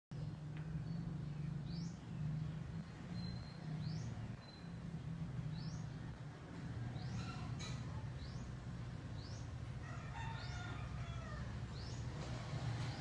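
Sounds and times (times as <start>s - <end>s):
low steady hum: 0.1s - 13.0s.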